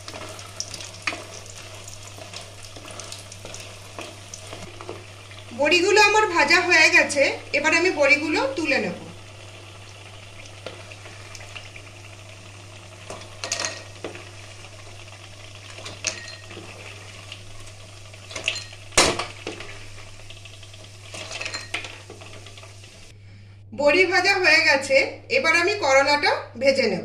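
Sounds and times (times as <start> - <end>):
faint oil sizzle: 0.0 - 23.1.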